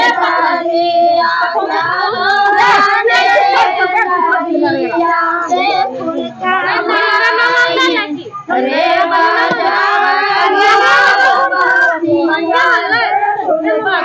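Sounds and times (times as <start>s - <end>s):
women and girls singing together: 0.0s - 14.0s.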